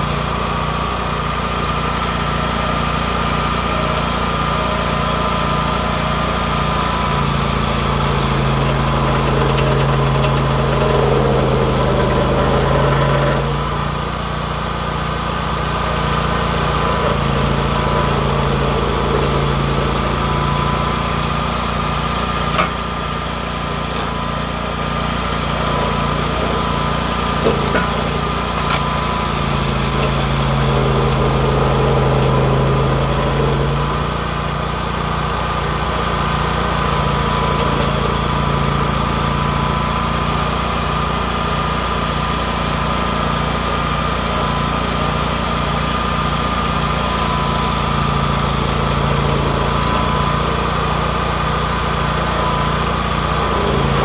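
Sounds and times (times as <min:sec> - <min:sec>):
stump grinder grinding: 0:00.0 - 0:54.0.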